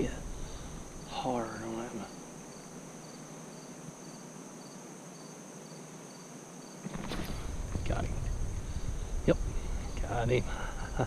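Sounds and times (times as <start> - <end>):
insect chirping in pulses: 0.0 - 11.0
insects trilling drone: 0.0 - 11.0.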